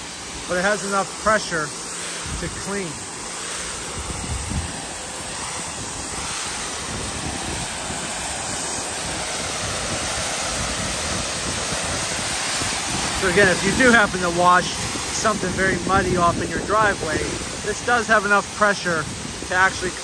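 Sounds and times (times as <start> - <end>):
pressure washer spraying asphalt: 0.0 - 20.0.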